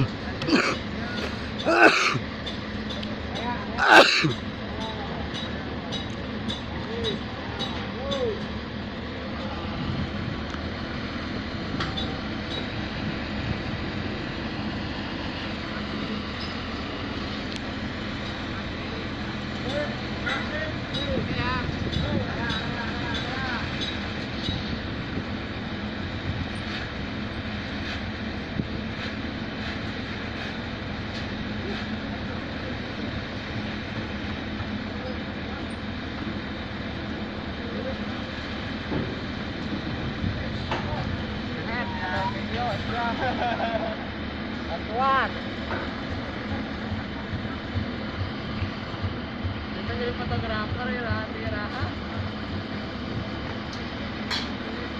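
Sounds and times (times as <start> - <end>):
pile driver engine rumbling: 0.0 - 54.9.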